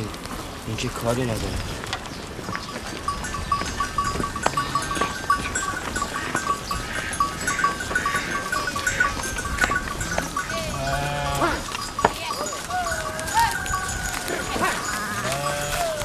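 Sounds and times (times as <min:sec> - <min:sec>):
animal bells clinking: 0:00.0 - 0:16.0.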